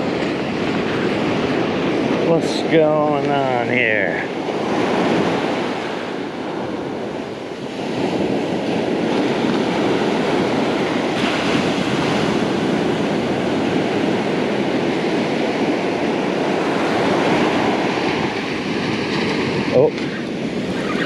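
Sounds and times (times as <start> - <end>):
ocean surf washing onto beach: 0.0 - 21.0
wind on microphone: 0.0 - 21.0.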